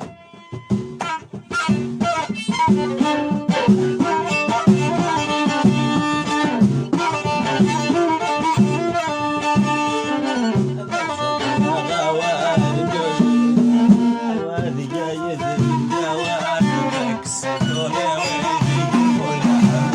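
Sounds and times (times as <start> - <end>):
accompanying instruments: 0.0 - 19.9
bowed violin melody: 0.0 - 19.9.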